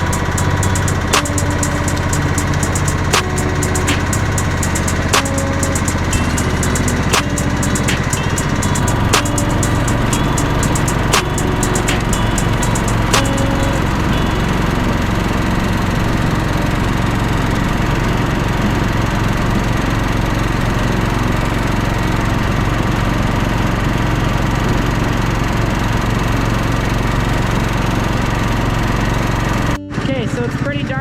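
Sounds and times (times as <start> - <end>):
lawn tractor engine running: 0.0 - 29.8.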